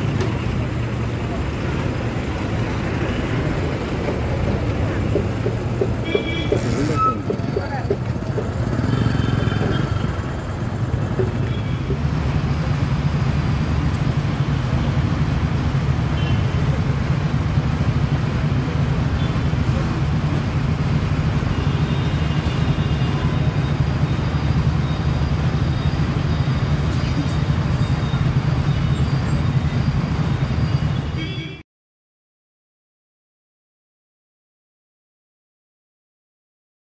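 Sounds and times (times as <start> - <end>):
road traffic rumble: 0.0 - 31.6.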